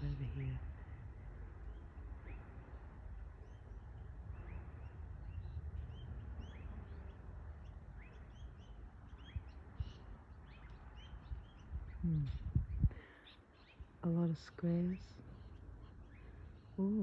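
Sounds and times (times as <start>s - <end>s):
low background rumble: 0.0s - 17.0s
small birds chirping: 0.0s - 17.0s.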